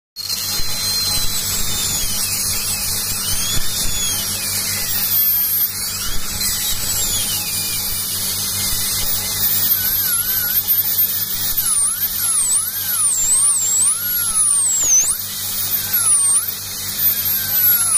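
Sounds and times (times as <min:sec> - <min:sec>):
dental drill whining: 0:00.2 - 0:17.9.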